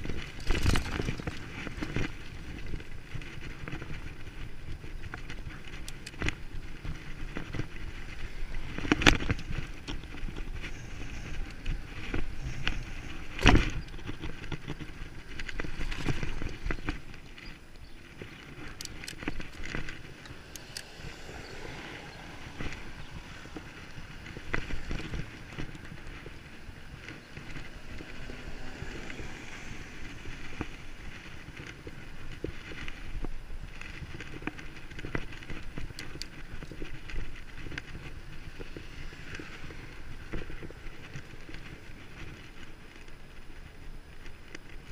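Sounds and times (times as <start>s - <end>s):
bicycle rattling over rough ground: 0.0s - 44.9s.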